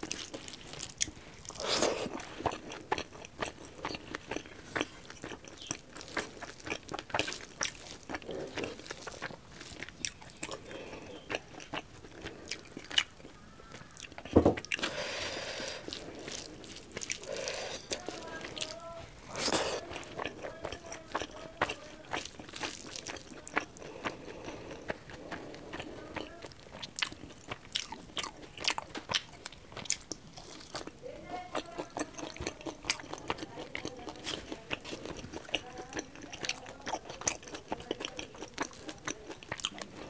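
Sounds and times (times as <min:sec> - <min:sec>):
close-miked wet chewing: 0:00.0 - 0:40.0.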